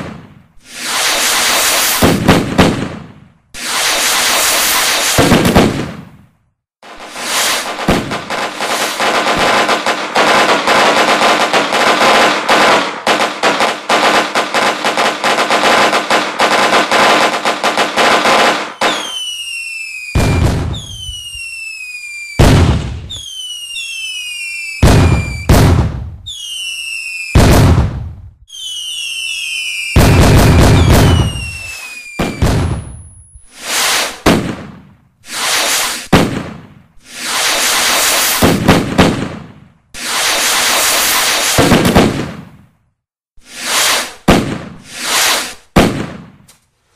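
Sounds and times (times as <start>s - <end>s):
firecracker bangs: 0.0s - 6.2s, 6.8s - 19.5s, 20.1s - 21.5s, 22.4s - 23.4s, 24.8s - 26.2s, 27.3s - 28.4s, 29.4s - 33.1s, 33.7s - 42.7s, 43.6s - 46.5s
whistling fireworks with bangs: 0.0s - 42.7s, 43.4s - 46.5s.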